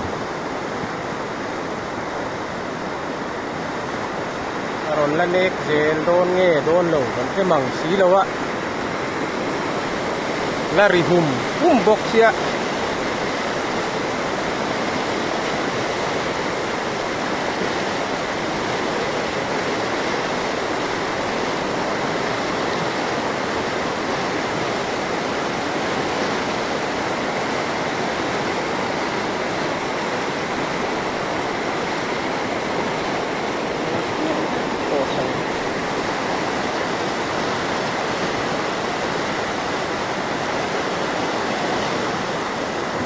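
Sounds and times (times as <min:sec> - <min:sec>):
flooded river rushing: 0:00.0 - 0:43.0.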